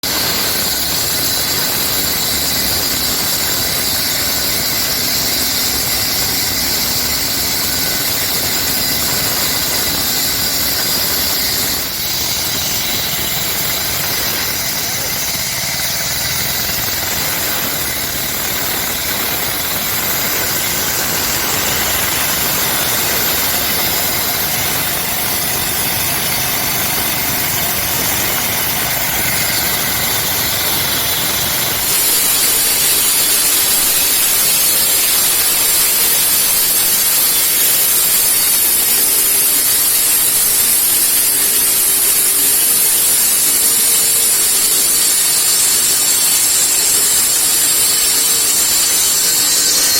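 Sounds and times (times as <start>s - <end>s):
concrete cutting machine whine: 0.0s - 49.9s.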